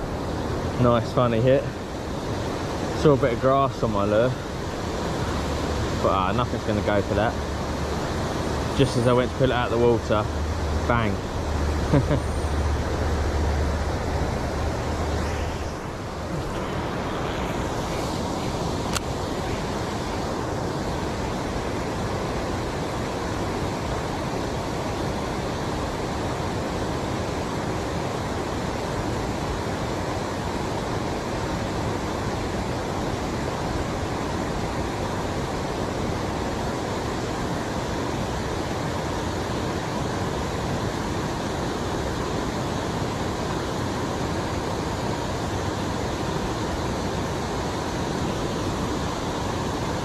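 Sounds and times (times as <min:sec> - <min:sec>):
steady rushing noise: 0:00.0 - 0:50.0.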